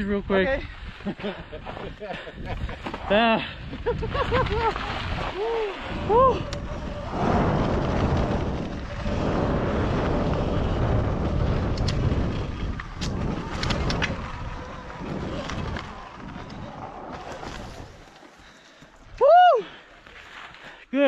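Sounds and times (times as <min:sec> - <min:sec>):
wind noise on microphone: 0:00.0 - 0:18.1.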